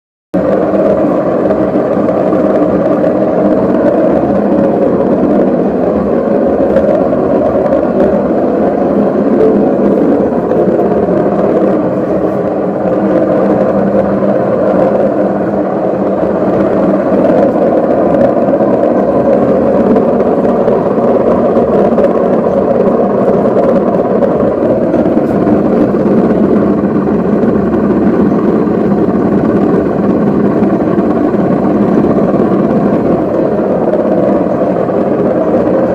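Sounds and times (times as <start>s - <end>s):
washing machine drum bearing noise: 0.4s - 35.9s.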